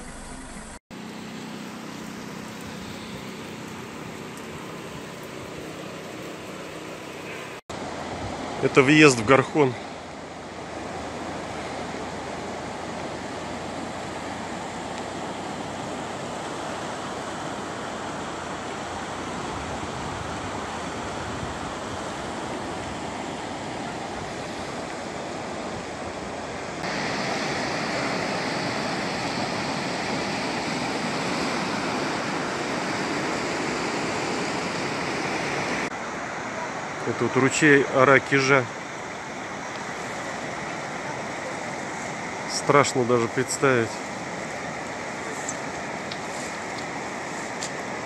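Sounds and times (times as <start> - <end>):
floodwater rushing: 0.0 - 48.0
foaming water churning: 1.1 - 48.0.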